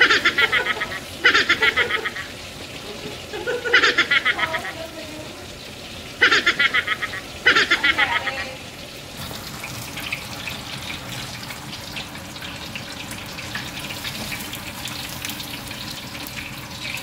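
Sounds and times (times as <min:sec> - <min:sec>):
oil crackling and popping: 0:00.0 - 0:06.2, 0:06.8 - 0:17.0
meat deep-frying in hot oil: 0:00.0 - 0:17.0.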